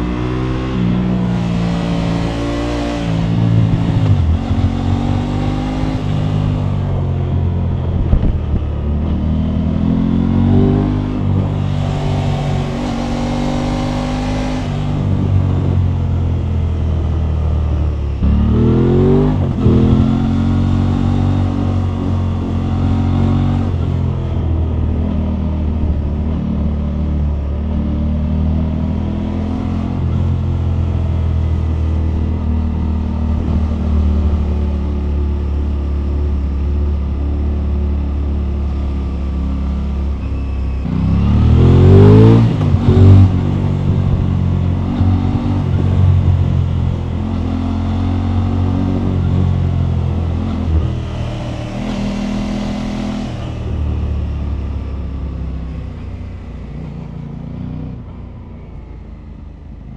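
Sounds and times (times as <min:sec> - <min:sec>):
motorcycle engine revving: 0:00.0 - 0:58.3.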